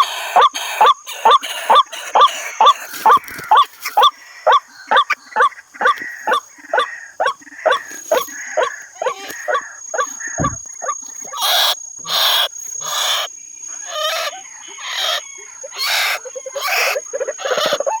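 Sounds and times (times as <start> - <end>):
bird hooting calls: 0.0 - 18.0.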